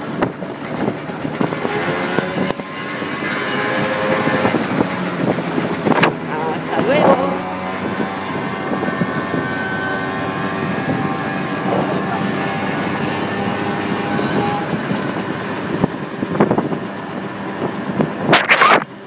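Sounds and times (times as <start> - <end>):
motorbike engine droning: 0.0 - 19.0
rushing wind noise: 0.0 - 19.0.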